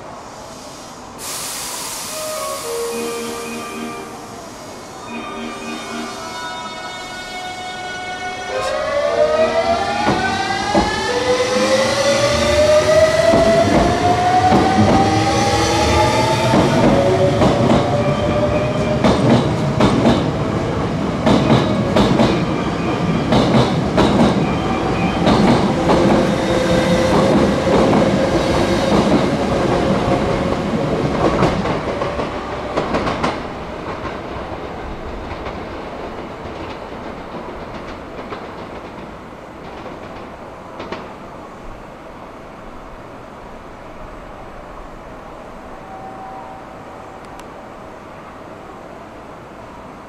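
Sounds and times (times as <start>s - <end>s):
electric train whine: 0.0s - 35.3s, 41.5s - 50.0s.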